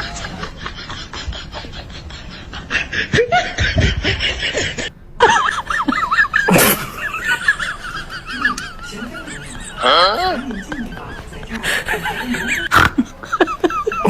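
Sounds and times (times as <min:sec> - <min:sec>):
person snickering and laughing: 0:00.0 - 0:14.0.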